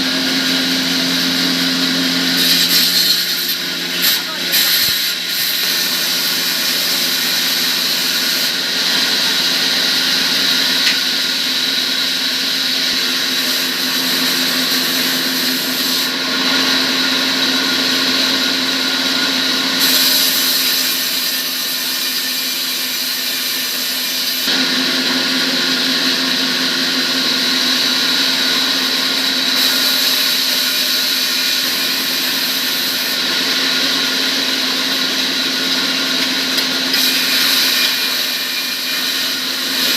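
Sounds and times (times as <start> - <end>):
power tool motor humming and hissing: 0.0 - 39.9.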